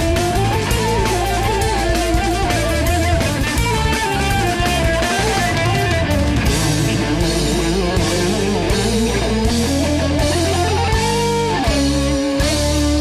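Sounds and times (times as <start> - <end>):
bass: 0.0 - 13.0
drums with cymbal crashes: 0.0 - 13.0
electric guitar lead melody: 0.0 - 13.0.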